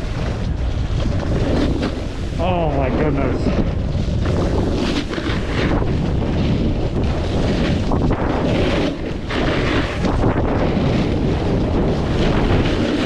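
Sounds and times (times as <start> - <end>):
snowboard scraping over snow: 0.0 - 13.0
wind buffeting microphone: 0.0 - 13.0.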